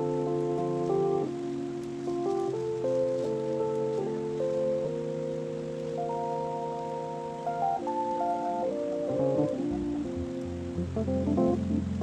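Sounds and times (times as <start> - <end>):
faint rain hiss: 0.0 - 12.0
music of sustained chords: 0.0 - 12.0.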